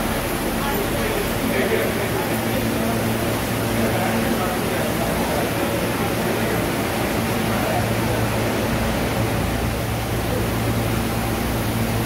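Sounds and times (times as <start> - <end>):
steady low hum: 0.0 - 12.0
ventilation hiss: 0.0 - 12.0.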